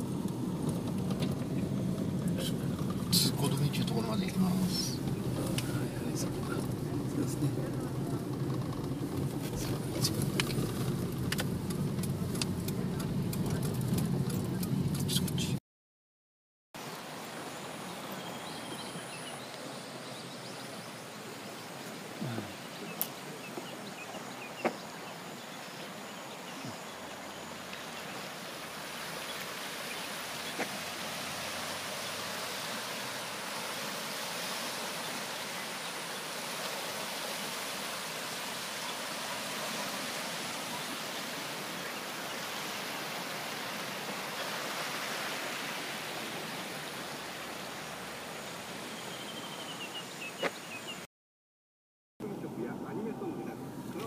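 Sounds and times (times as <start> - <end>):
river rushing in flood: 0.0 - 14.3, 16.8 - 51.0.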